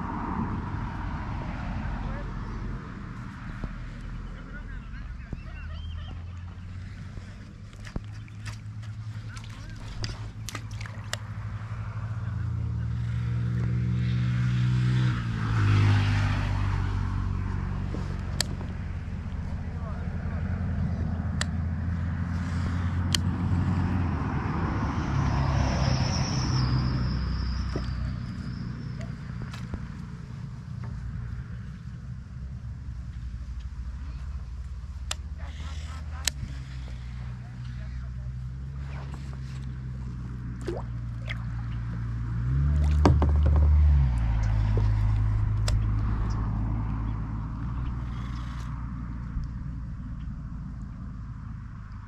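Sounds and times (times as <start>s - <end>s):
engine hum: 0.0s - 52.0s.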